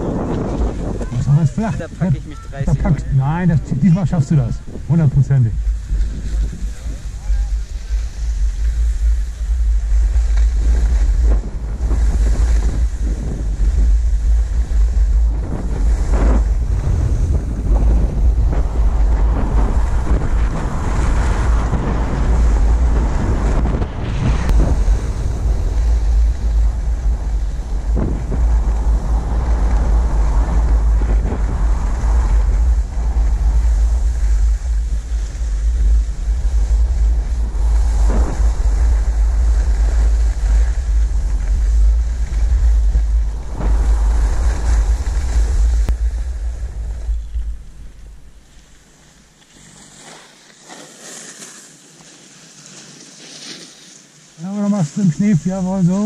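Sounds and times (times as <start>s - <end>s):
wind buffeting microphone: 0.0s - 49.4s
skis scraping over snow: 0.0s - 56.0s.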